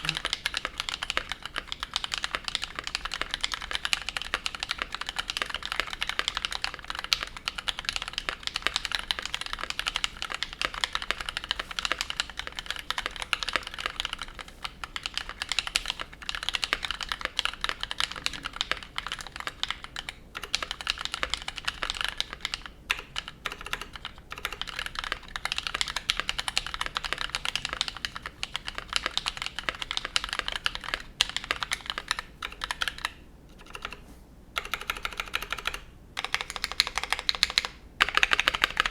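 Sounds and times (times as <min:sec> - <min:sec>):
mechanical keyboard typing: 0:00.0 - 0:34.0, 0:34.6 - 0:38.9.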